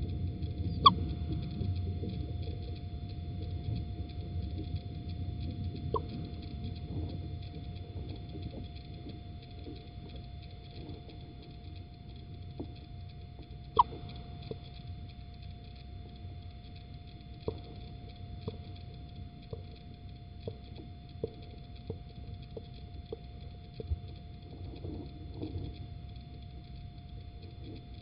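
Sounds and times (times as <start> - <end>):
steady electronic hum: 0.0 - 28.0.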